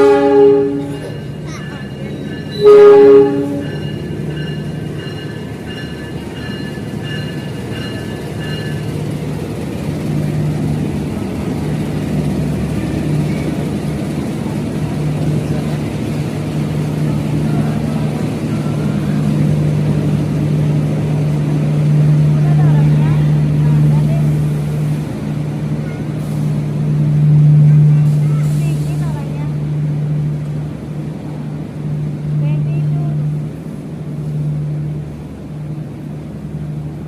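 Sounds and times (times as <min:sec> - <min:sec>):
train engine hum and rumble: 0:00.0 - 0:37.0.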